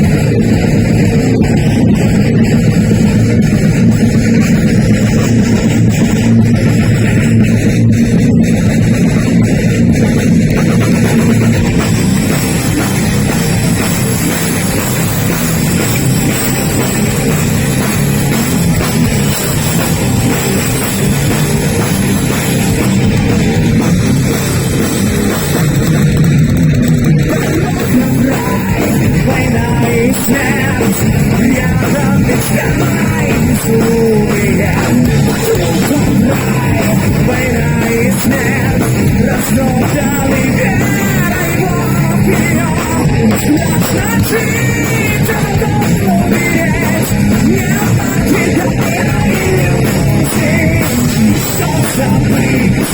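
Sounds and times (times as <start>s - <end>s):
heavy metal band playing: 0.0s - 52.9s.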